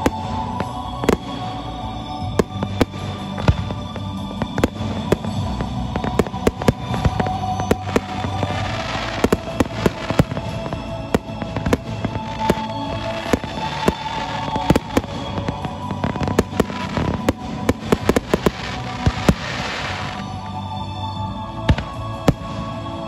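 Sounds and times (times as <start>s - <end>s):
fireworks bangs: 0.0s - 20.3s
music playing: 0.0s - 23.0s.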